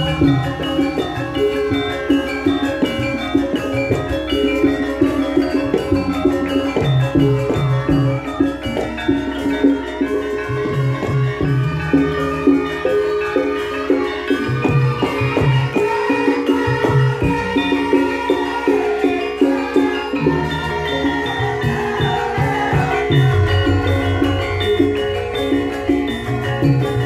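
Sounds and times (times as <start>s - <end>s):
bronze metallophone tones: 0.0s - 27.0s.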